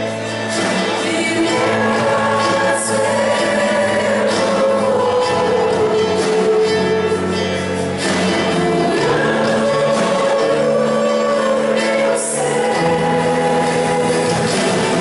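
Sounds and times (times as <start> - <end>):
acoustic guitar: 0.0 - 15.0
electric bass: 0.0 - 15.0
keyboard: 0.0 - 15.0
voices singing together: 0.0 - 15.0.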